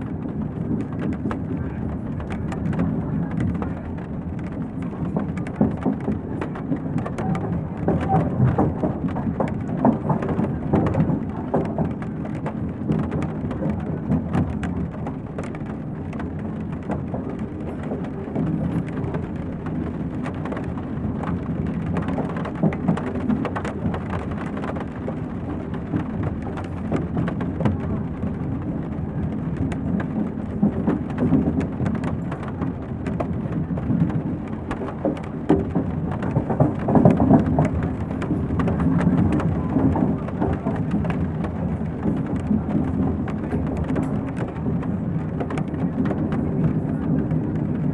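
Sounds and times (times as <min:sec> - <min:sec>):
rain pattering on window: 0:00.0 - 0:47.9
train rumbling: 0:00.0 - 0:47.9.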